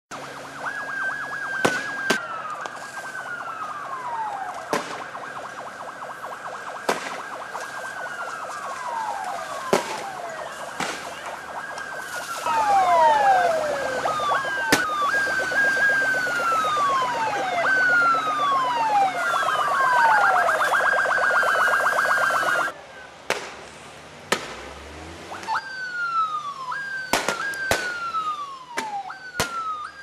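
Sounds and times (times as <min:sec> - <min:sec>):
police sirens wailing: 0:00.1 - 0:23.2, 0:24.7 - 0:30.0.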